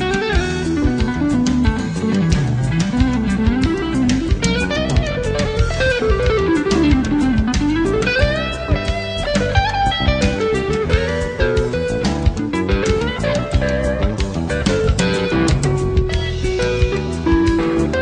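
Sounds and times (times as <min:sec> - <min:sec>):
drum kit: 0:00.0 - 0:18.0
fast plucked string lead: 0:00.0 - 0:18.0.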